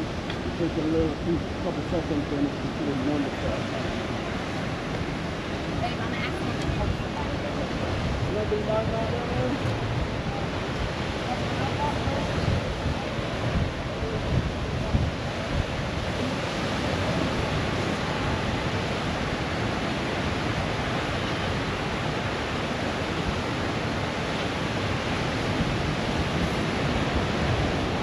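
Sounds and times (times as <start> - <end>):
ocean surf breaking: 0.0 - 28.0
wind on microphone: 0.0 - 28.0.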